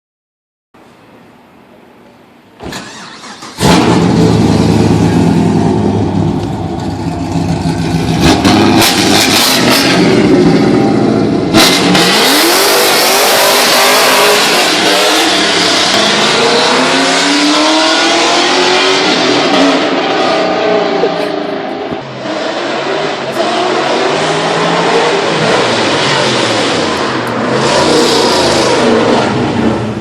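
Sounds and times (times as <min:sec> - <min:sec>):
car accelerating hard: 0:02.7 - 0:30.0.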